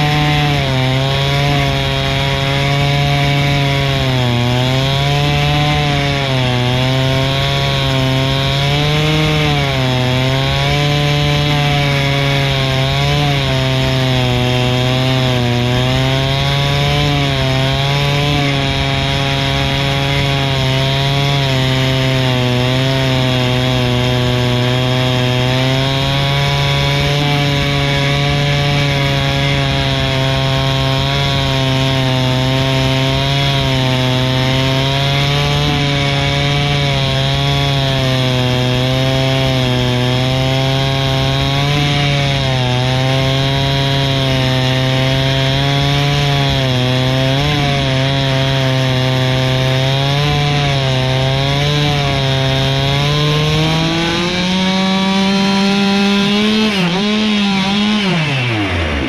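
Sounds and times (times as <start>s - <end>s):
chainsaw cutting through log: 0.0s - 59.0s.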